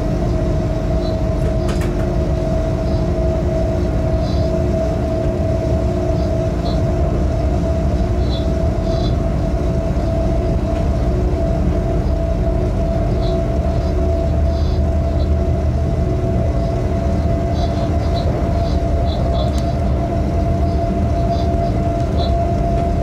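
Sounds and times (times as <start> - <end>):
locomotive cab rumble: 0.0 - 23.0.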